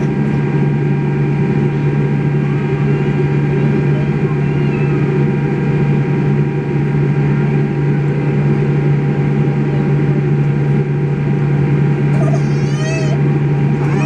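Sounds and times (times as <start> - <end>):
airplane cabin hum: 0.0 - 14.0.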